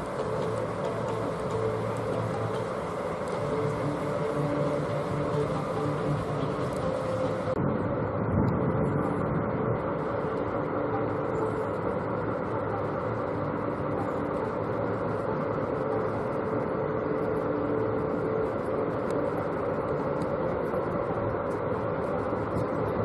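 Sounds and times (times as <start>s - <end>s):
faint steady hum: 0.0s - 23.0s
locomotive running noise: 0.0s - 23.0s.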